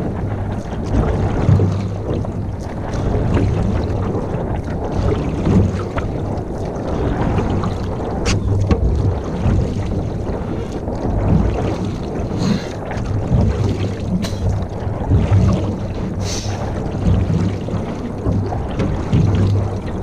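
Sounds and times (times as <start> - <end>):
water sloshing: 0.0 - 20.0
wind buffeting microphone: 0.0 - 20.0.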